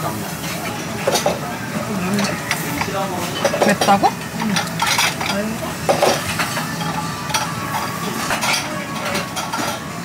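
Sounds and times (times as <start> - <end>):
steady background noise: 0.0 - 10.0
cutlery clinking against bowl: 0.4 - 1.5, 2.1 - 9.9.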